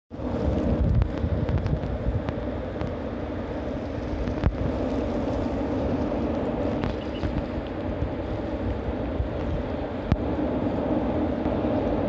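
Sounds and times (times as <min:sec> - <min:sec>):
steady low hum: 0:00.1 - 0:12.0
wind rumbling on microphone: 0:00.1 - 0:12.0.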